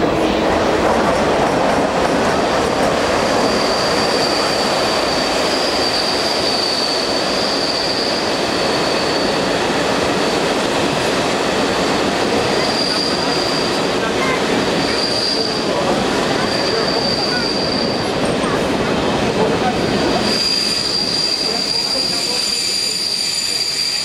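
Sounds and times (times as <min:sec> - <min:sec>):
train rolling noise: 0:00.0 - 0:24.0
railway wheels squealing: 0:03.0 - 0:10.6, 0:11.4 - 0:18.8, 0:19.4 - 0:24.0.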